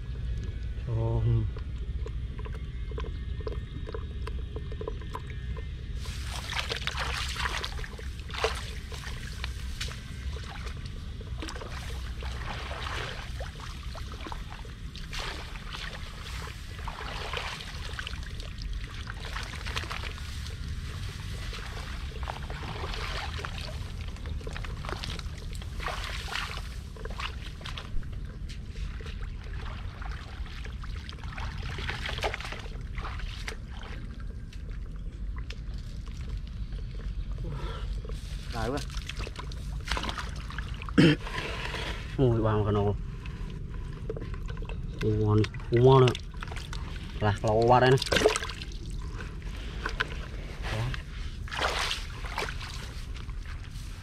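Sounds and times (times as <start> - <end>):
steady low rumble: 0.0 - 54.0
water splashing and sloshing: 0.0 - 54.0.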